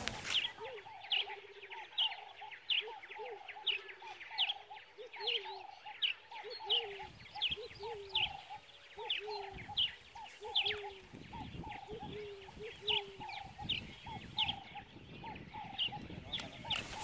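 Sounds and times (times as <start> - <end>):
lower fuller bird calls: 0.0 - 17.0.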